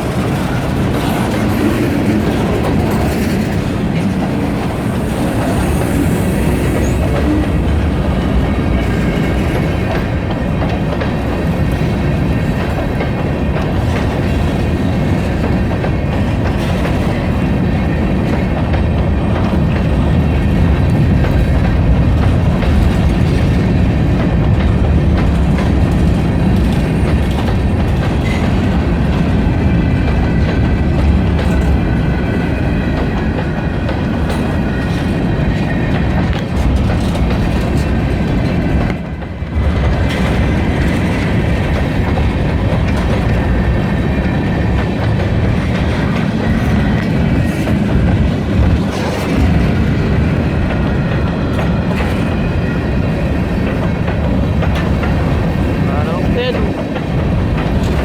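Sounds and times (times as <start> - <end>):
clickety-clack over rail joints: 0.0 - 58.0
freight train rumbling past: 0.0 - 58.0.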